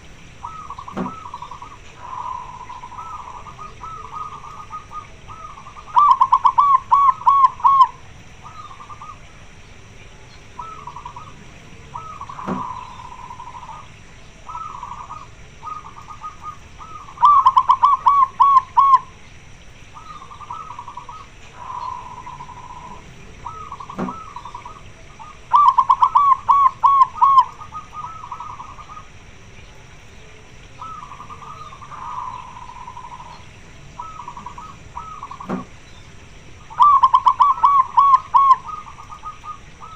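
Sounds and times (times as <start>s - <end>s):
soft dove coos: 0.0s - 9.5s, 10.1s - 19.2s, 19.9s - 29.3s, 29.9s - 35.8s, 36.6s - 39.9s
dove staccato cooing song: 0.0s - 39.9s.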